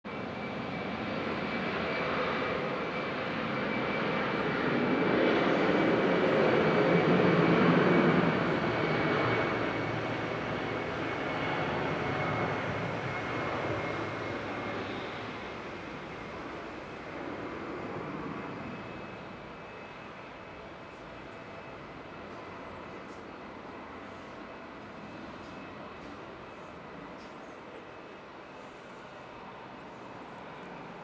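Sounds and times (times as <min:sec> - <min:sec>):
jet engines at takeoff: 0:00.0 - 0:31.0.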